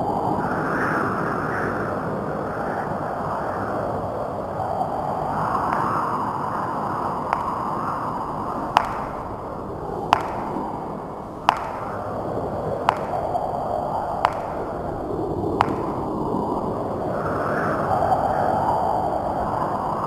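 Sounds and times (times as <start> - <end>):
ceiling fan humming: 3.0 - 20.0.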